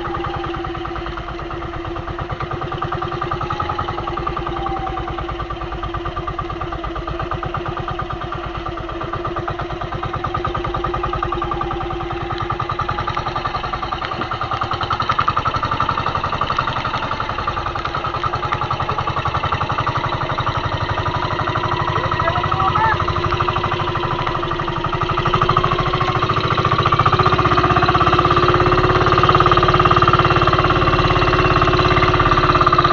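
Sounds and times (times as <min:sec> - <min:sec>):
boat engine running: 0:00.0 - 0:32.9.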